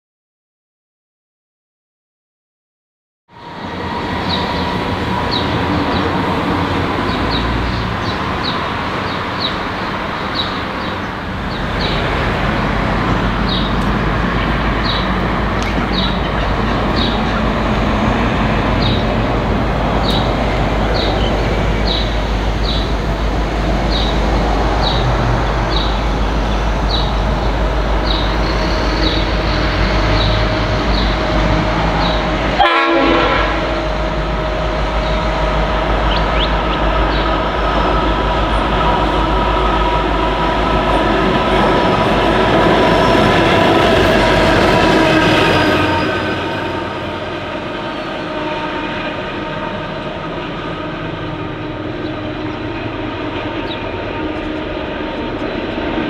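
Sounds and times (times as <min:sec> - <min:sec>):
locomotive engine rumble: 0:03.4 - 0:56.0.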